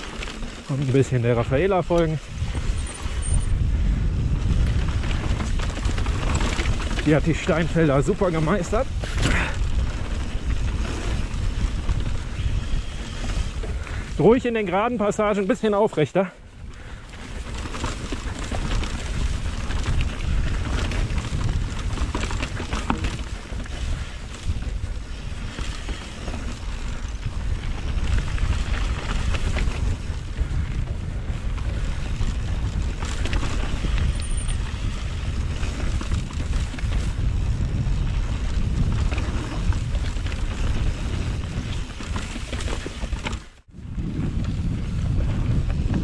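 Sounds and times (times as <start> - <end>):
wind buffeting microphone: 0.0 - 15.5, 16.4 - 46.0
bike clicks and rattles: 0.0 - 46.0
tyres rumbling on stony trail: 0.0 - 46.0.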